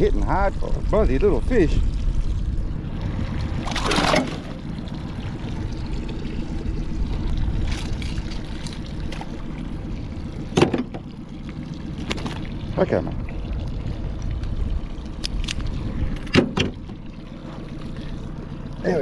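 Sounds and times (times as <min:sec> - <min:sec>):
low rumble: 0:00.0 - 0:18.8
water splashing beside a boat: 0:00.0 - 0:19.0.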